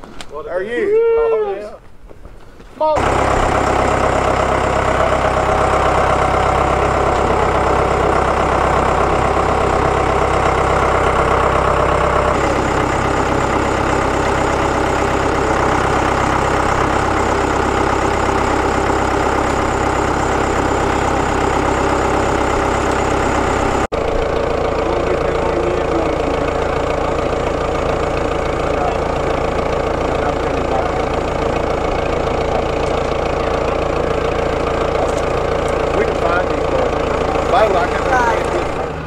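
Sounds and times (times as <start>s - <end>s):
tractor diesel engine running: 2.8s - 39.0s.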